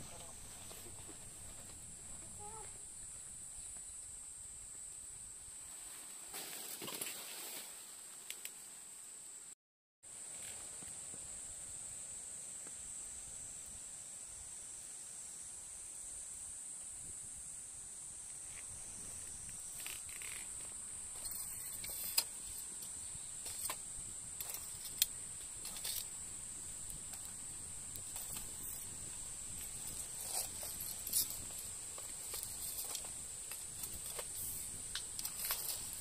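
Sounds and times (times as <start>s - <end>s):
cicadas droning: 0.0s - 9.5s, 10.1s - 36.0s.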